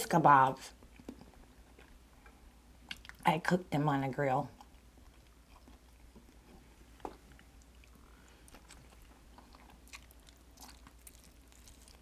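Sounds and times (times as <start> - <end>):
person chewing: 0.8 - 3.2, 4.6 - 12.0.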